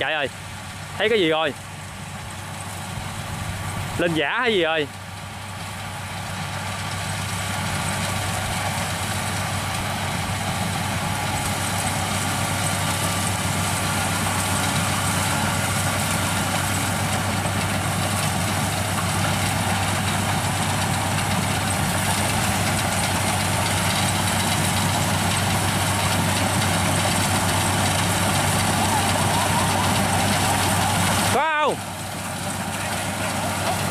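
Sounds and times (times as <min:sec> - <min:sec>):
combine harvester engine running: 0:00.0 - 0:33.9.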